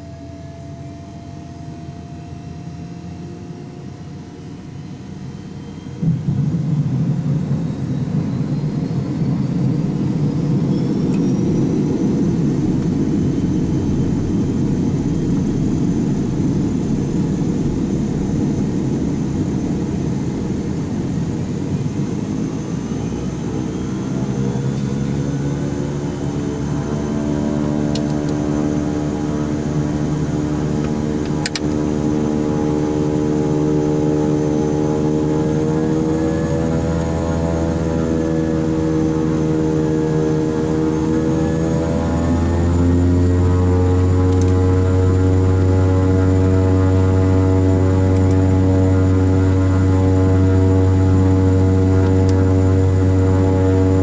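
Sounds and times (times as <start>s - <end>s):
high turbine whine: 0.0s - 54.0s
steady droning tones: 0.0s - 54.0s
turboprop engine starting: 0.0s - 54.0s
heavy low rush: 6.0s - 10.7s, 11.3s - 54.0s.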